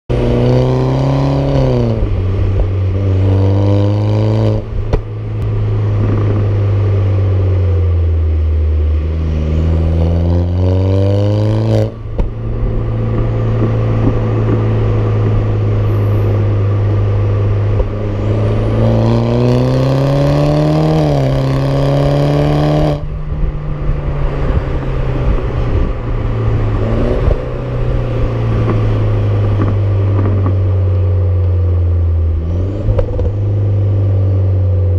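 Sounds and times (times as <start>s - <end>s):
car exhaust revving: 0.1s - 34.9s.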